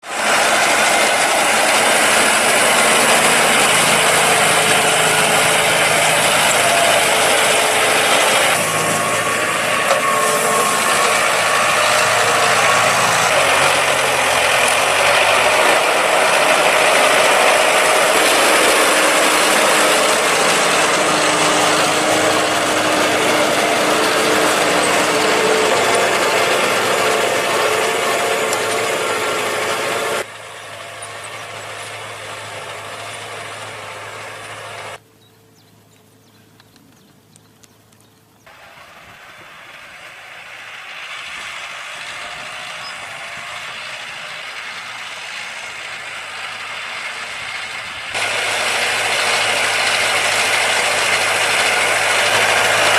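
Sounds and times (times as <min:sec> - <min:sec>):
plough mechanical clatter: 0:00.0 - 0:35.0, 0:39.0 - 0:52.9
tractor diesel engine running: 0:00.0 - 0:52.9.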